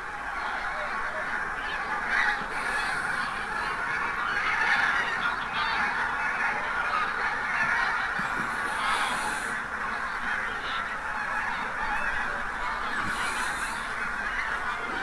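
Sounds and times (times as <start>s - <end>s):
geese honking: 0.1s - 15.0s.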